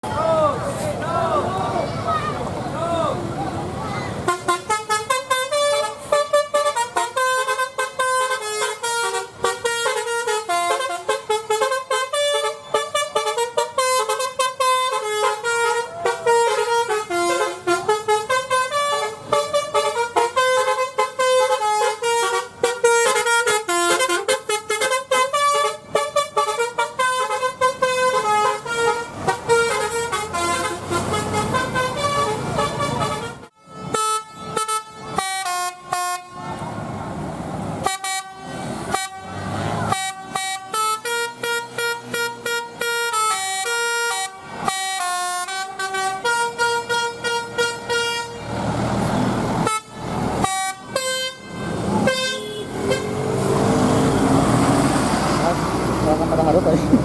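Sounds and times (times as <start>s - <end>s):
multi-tone bus horn melody: 4.2s - 36.8s, 37.8s - 54.9s.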